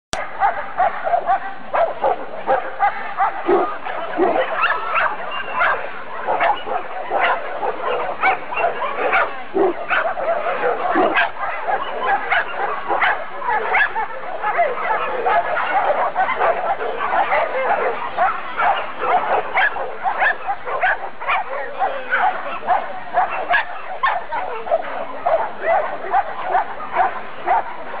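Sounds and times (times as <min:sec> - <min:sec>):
dogs barking: 0:00.2 - 0:28.0.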